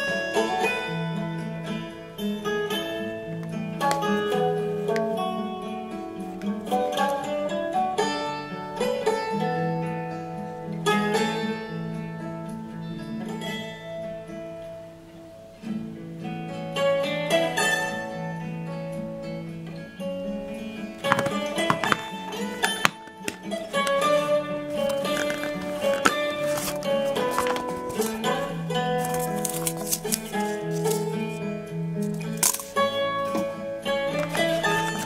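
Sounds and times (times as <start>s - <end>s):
plucked guitar melody: 0.0s - 35.0s.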